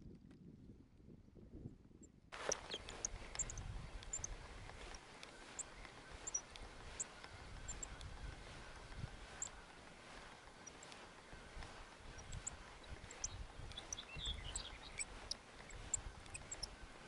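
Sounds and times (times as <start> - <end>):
wind rumbling on microphone: 0.0 - 17.0
small birds chirping: 2.4 - 17.0
steady outdoor hiss: 2.4 - 17.0.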